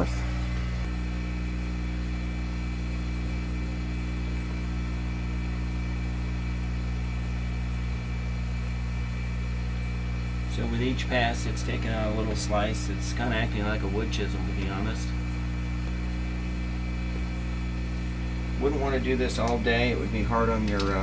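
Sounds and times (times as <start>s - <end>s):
machine hum with low rumble: 0.0s - 21.0s.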